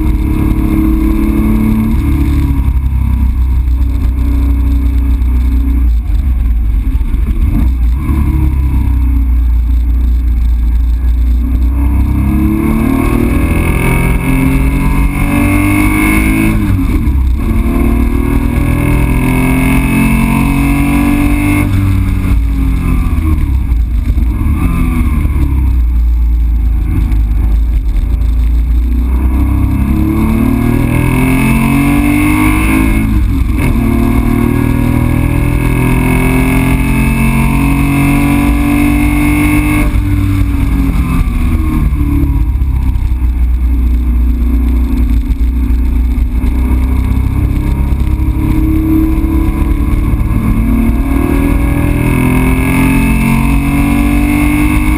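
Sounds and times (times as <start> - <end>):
car engine revving: 0.0 - 54.9
road and wind noise: 0.0 - 54.9.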